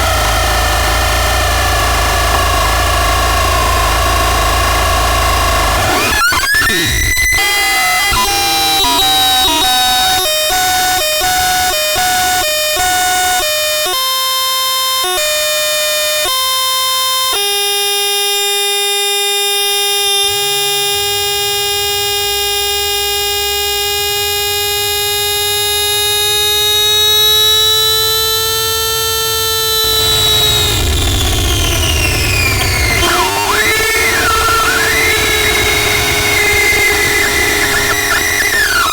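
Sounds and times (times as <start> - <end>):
harsh buzzy electronic tone: 0.0 - 38.9.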